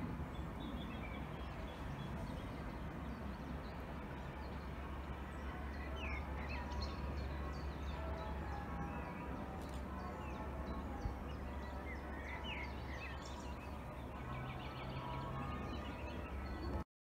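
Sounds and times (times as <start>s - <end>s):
birds chirping and tweeting: 0.0s - 16.8s.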